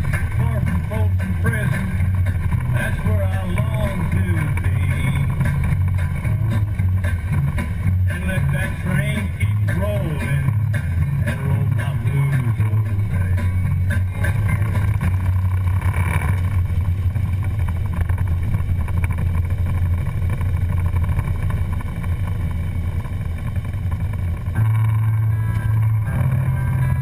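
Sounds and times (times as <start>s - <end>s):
motorcycle engine rumble: 0.0s - 27.0s.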